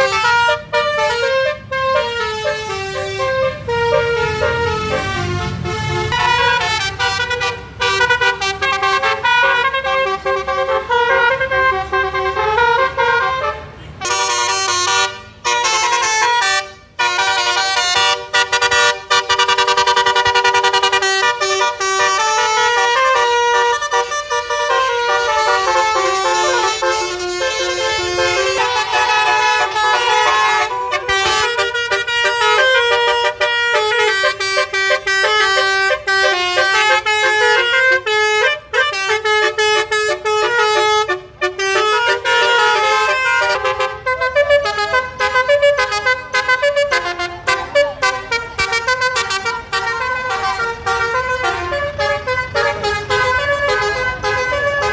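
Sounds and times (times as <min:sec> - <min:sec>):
musical air horns: 0:00.0 - 0:54.9.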